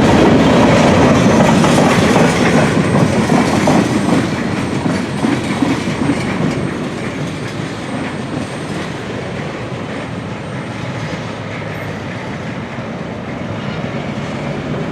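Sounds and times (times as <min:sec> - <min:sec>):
wheels clattering over rail joints: 0:00.0 - 0:13.5
freight train rumbling: 0:00.0 - 0:14.9.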